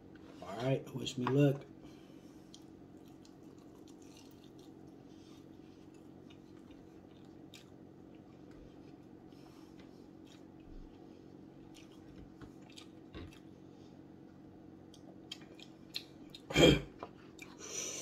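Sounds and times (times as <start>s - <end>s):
person chewing: 2.3s - 13.6s, 14.8s - 18.0s.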